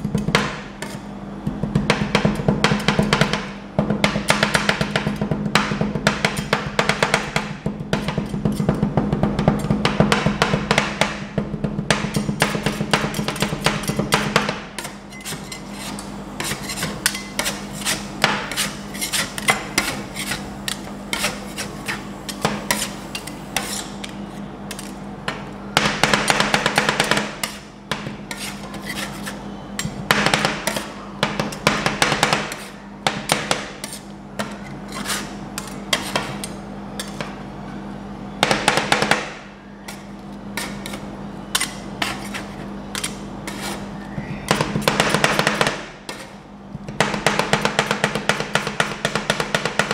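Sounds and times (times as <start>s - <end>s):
metal spatulas chopping on steel pan: 0.0s - 37.4s, 38.4s - 43.8s, 44.5s - 49.9s
steady low hum: 0.0s - 49.9s.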